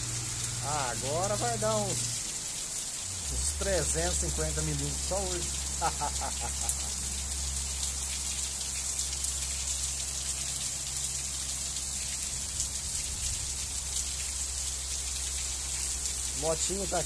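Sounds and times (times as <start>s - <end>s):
heavy rain on road: 0.0s - 17.0s
water dripping off roof: 0.0s - 17.0s.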